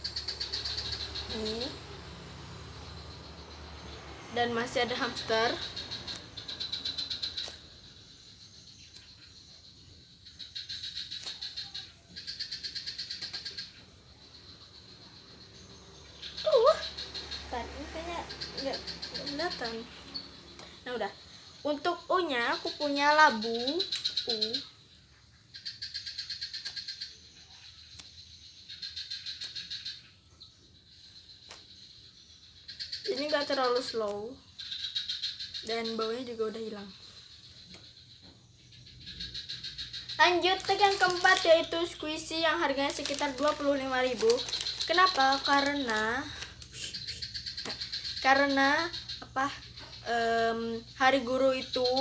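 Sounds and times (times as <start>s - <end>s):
animal chirping trills: 0.0s - 52.0s.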